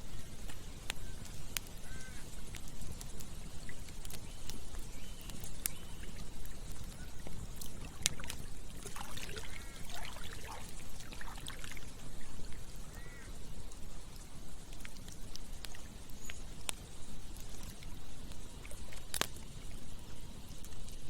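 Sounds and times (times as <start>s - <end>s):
campfire crackling and popping: 0.0s - 21.0s
flowing water: 0.0s - 21.0s.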